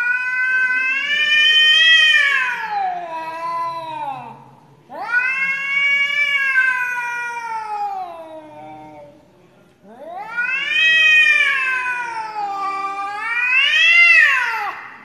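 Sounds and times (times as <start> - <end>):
cats yowling: 0.0 - 9.2, 9.9 - 15.0.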